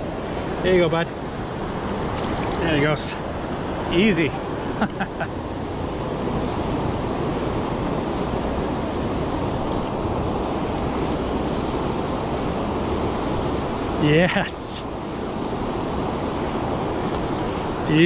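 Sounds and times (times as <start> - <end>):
river water flowing over stones: 0.0 - 4.8, 5.4 - 18.0.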